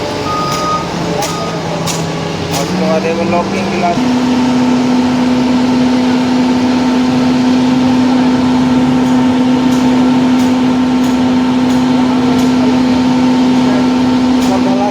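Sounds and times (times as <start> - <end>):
concrete mixer engine hum: 0.0 - 14.9.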